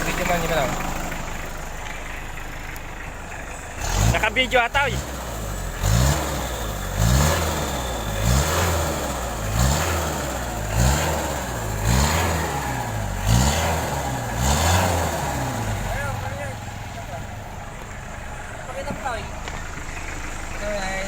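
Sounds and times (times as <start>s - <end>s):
engine revving from idle: 0.0s - 21.0s.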